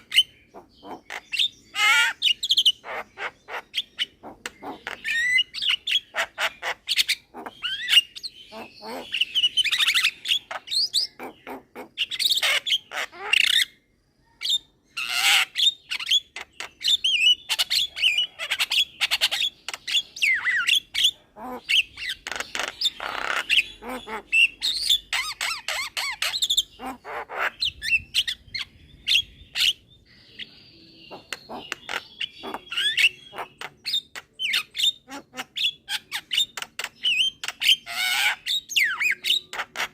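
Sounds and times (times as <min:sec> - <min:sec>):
bird chattering and squawking: 0:00.0 - 0:39.9.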